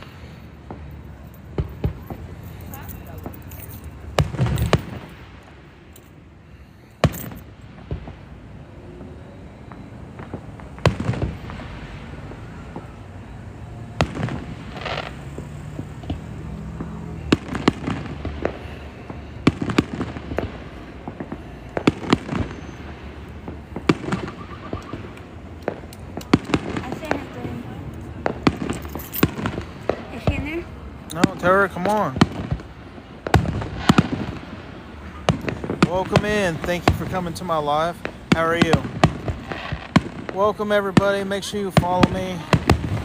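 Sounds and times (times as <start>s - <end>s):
fireworks bangs: 0.0s - 43.0s
fireworks crackling: 0.0s - 43.0s.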